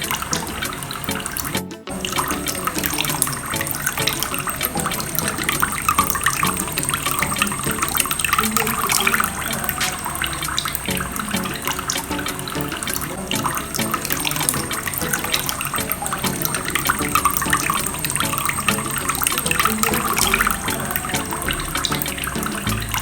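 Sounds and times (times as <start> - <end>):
background music: 0.0 - 23.0
water pouring into a basin: 0.0 - 23.0.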